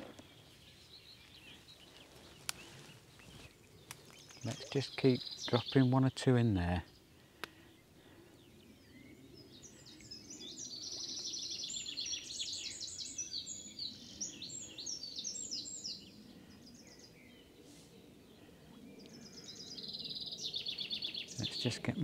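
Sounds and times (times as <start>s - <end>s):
faint outdoor background noise: 0.0s - 22.0s
songbird singing: 0.0s - 22.0s.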